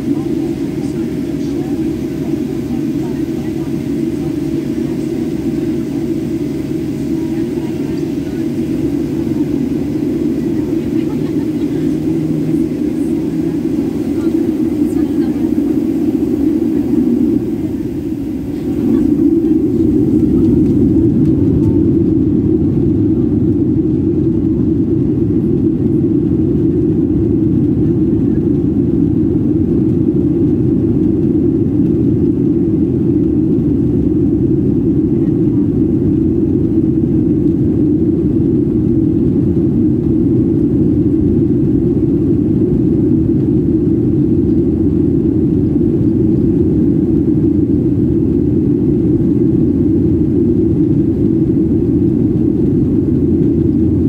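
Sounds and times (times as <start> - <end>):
jet airliner taxiing rumble: 0.0 - 54.0.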